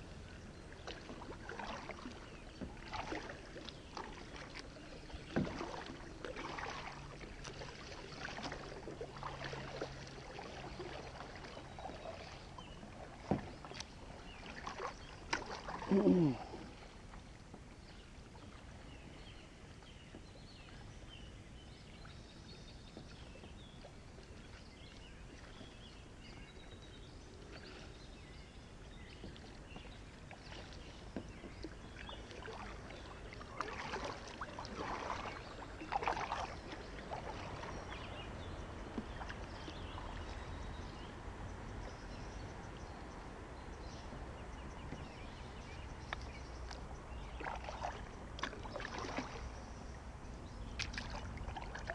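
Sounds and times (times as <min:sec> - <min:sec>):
paddle splashing in water: 0:00.0 - 0:51.9.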